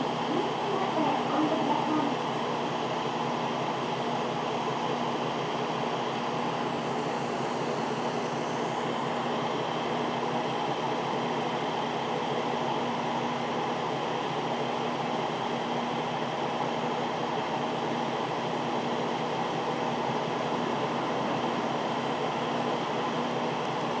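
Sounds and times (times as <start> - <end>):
diesel railcar engine idling: 0.0 - 24.0.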